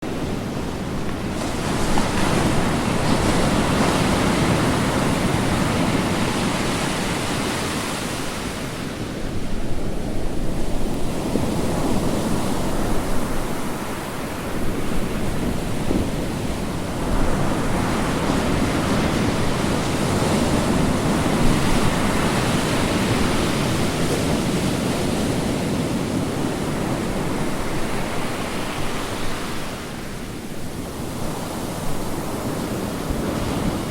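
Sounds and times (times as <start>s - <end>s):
sea waves breaking on shore: 0.0s - 33.9s.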